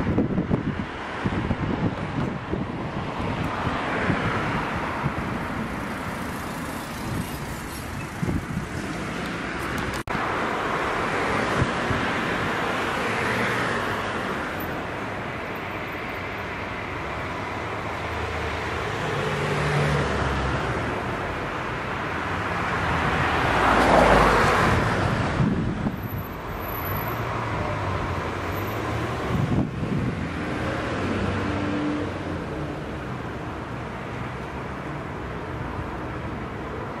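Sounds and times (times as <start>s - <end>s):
cars driving past: 0.0s - 37.0s.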